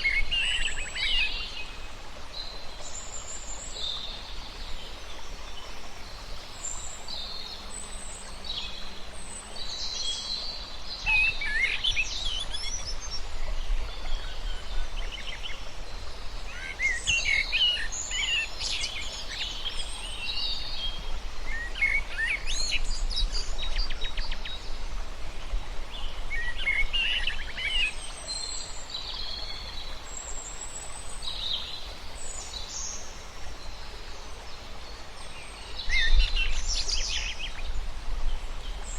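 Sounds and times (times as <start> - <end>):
songbirds singing and chirping: 0.0 - 38.9
steady background hiss: 0.0 - 38.9.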